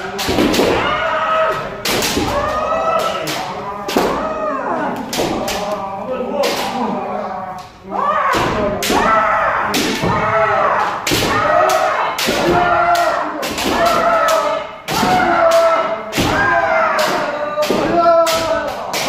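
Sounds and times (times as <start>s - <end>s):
fencers shouting: 0.0s - 19.0s.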